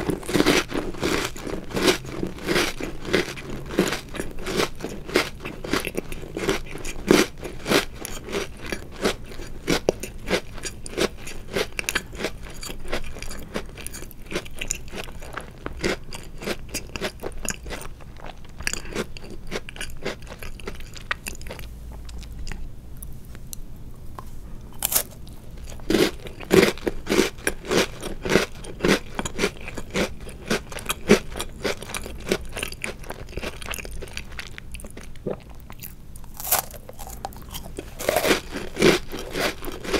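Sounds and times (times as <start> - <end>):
person chewing crunchy cookies: 0.0 - 39.9.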